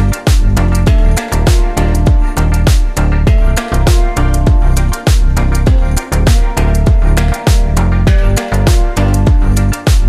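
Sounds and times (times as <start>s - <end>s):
background music with beat: 0.0s - 10.0s
deep kick-drum hits: 0.3s - 10.0s.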